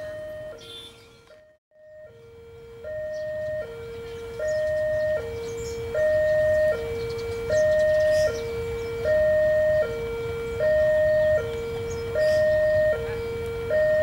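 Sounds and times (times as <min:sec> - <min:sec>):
two-tone electronic warning alarm: 0:00.0 - 0:14.0.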